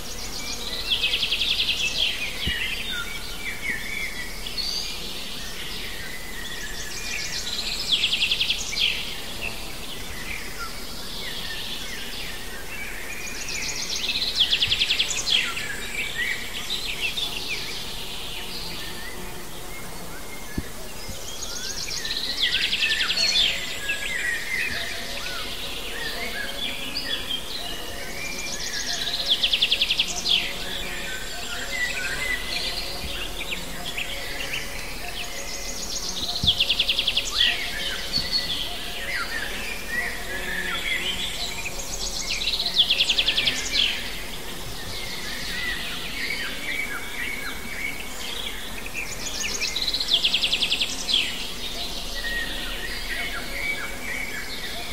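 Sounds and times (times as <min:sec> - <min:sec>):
steady outdoor hiss: 0:00.0 - 0:54.9.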